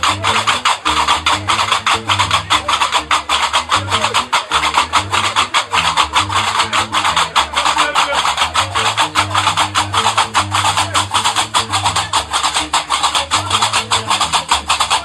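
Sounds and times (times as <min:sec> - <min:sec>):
iron castanets clacking: 0:00.0 - 0:15.0
plucked bass lute riff: 0:00.0 - 0:15.0.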